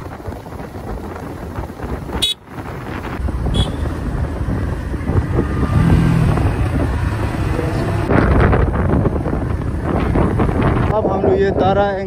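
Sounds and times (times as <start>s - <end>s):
motorcycle engine running: 0.0s - 10.9s
wind noise on microphone: 0.0s - 12.0s.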